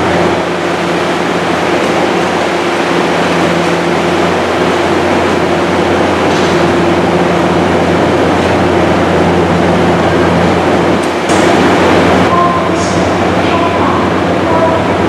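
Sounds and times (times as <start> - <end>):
locomotive engine droning: 0.0 - 15.0.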